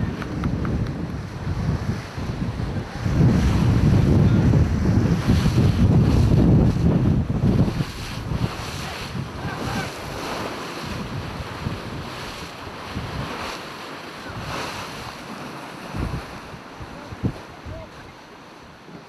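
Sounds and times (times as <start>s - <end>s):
sea waves rushing: 0.0s - 19.0s
wind buffeting microphone: 0.0s - 19.0s.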